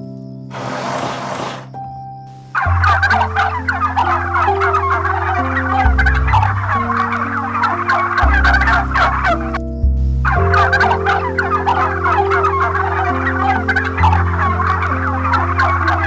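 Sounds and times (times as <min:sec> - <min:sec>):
flock of birds calling: 0:00.5 - 0:01.7, 0:02.9 - 0:09.6, 0:10.3 - 0:16.0.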